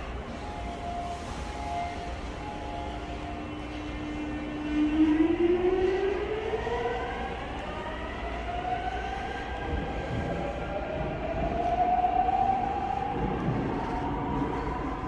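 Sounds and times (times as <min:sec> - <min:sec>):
low rumble of train cars: 0:00.0 - 0:15.0.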